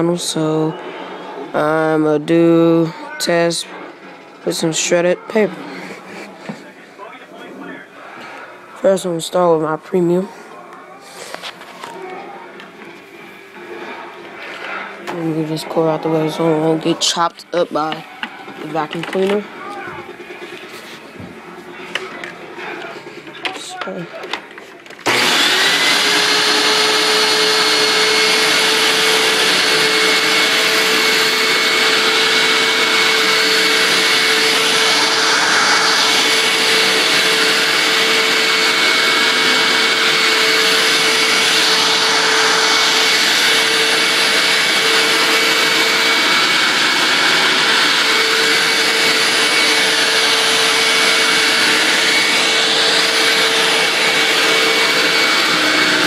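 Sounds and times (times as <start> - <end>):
vacuum cleaner motor whine: 0.0 - 6.6, 11.1 - 56.0.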